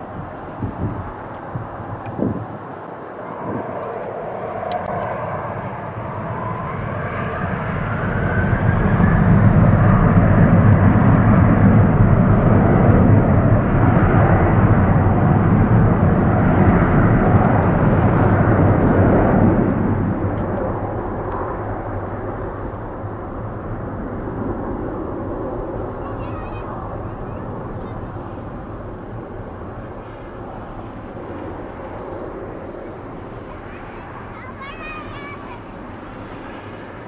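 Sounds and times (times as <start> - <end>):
jet engine rumble: 0.0 - 37.0
jet engine whine: 0.0 - 37.0.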